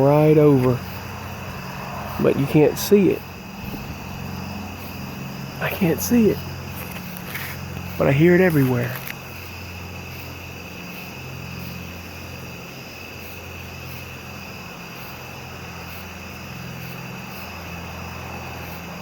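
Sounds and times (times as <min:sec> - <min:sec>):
aircraft engine drone overhead: 0:00.0 - 0:19.0
insects calling: 0:00.0 - 0:19.0.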